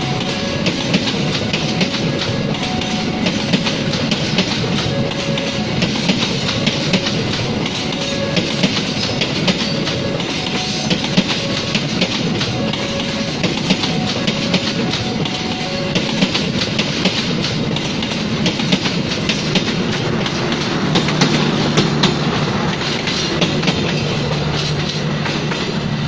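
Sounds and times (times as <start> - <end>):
train wheels rumbling: 0.0 - 26.0
wheels clacking over rail joints: 0.0 - 26.0.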